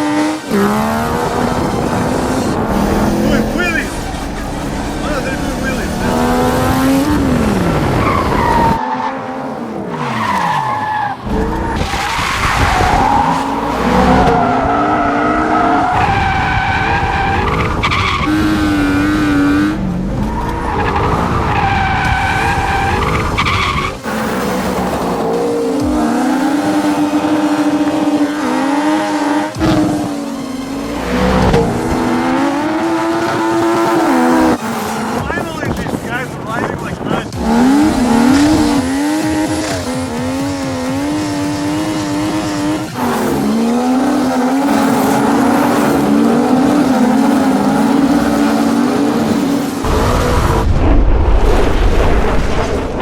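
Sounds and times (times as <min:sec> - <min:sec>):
tyre squeal and skidding: 0:00.0 - 0:50.3
high-revving engines: 0:00.0 - 0:51.7.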